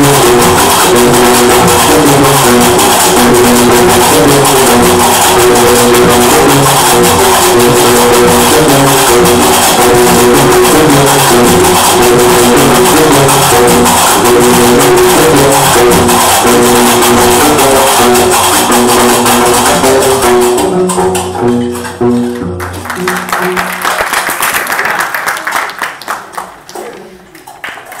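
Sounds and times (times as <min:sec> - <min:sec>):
plucked bass line: 0:00.0 - 0:23.8.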